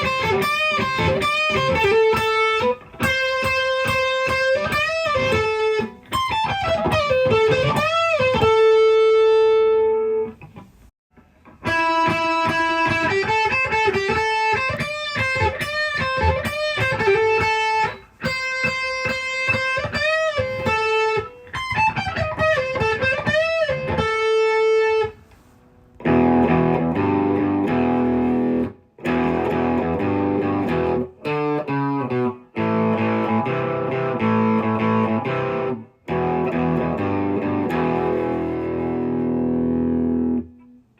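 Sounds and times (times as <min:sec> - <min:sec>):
electric guitar through amplifier: 0:00.0 - 0:40.9.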